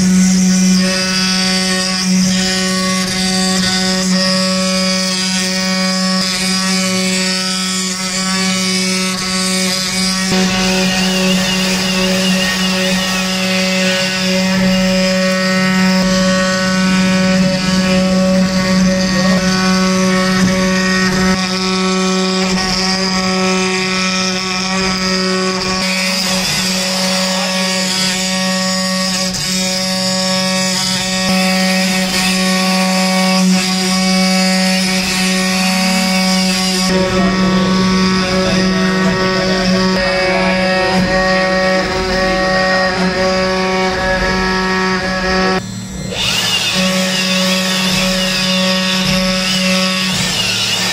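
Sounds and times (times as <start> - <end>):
high whine wavering in pitch: 0.0 - 50.9
wood router motor hum: 0.0 - 50.9.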